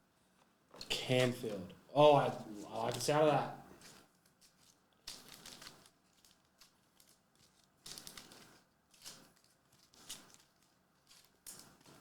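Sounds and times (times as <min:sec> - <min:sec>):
cards and wrappers rustling: 0:00.8 - 0:12.0.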